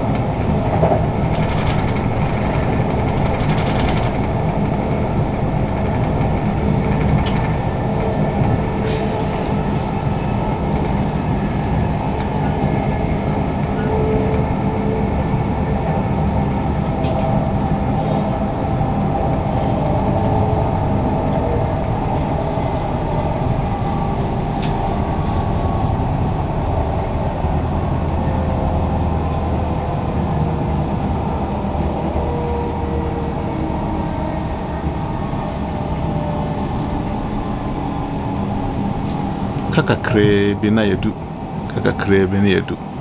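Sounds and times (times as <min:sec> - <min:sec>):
train wheels running on rails: 0:00.0 - 0:43.0.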